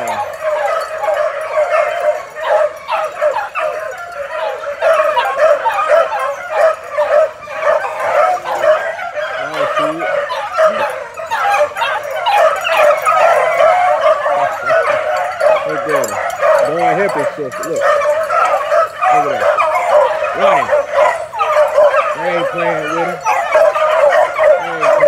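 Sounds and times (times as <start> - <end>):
puppies yelping and baying: 0.0 - 25.0.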